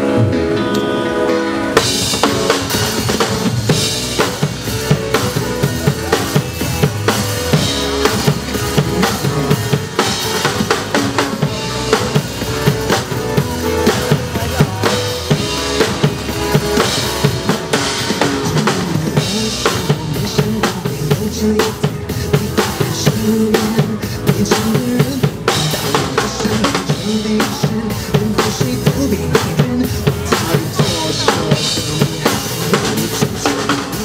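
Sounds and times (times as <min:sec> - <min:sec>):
drum kit playing a steady beat: 0:00.0 - 0:34.0
pop song backing track: 0:00.0 - 0:34.0.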